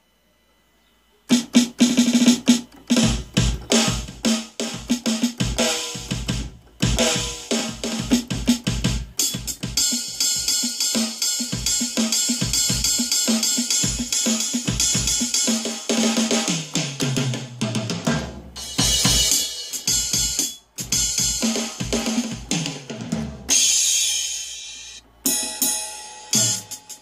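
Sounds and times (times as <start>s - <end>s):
drum kit hits: 1.3s - 24.2s, 25.3s - 27.0s.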